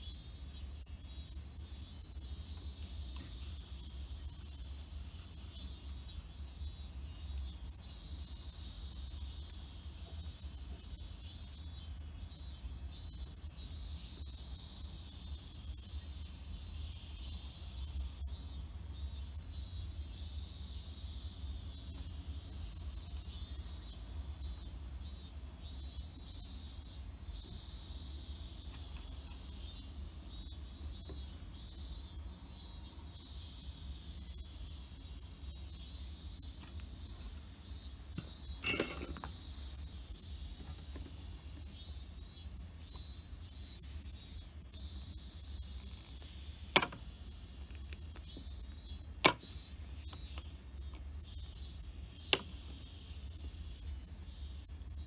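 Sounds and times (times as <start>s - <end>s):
high-pitched insect chirring: 0.0s - 55.0s.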